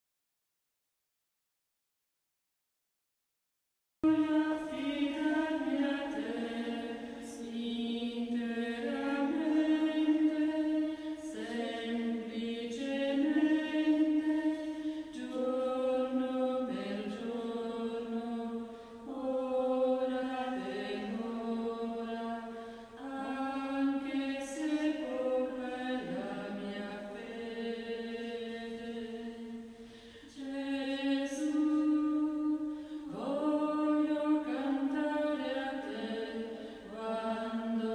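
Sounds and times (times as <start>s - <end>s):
choir singing a sacred chant: 4.0s - 37.9s.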